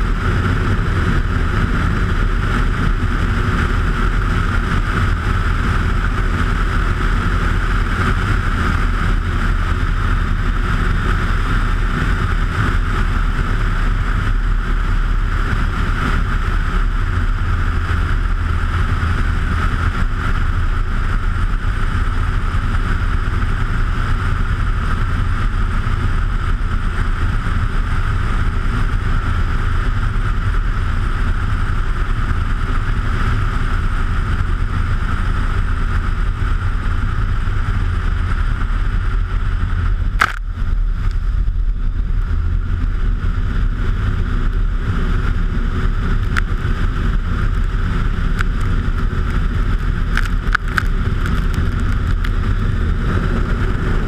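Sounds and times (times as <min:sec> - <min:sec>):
airplane engine droning: 0:00.0 - 0:54.0.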